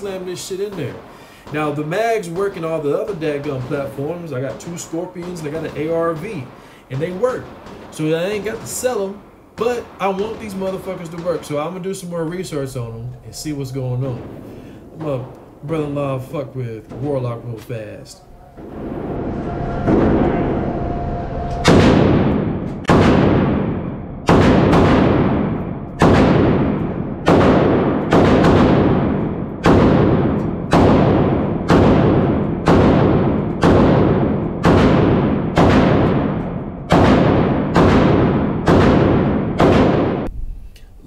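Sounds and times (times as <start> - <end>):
pistol shots echoing: 0.0 - 17.4, 22.9 - 40.3.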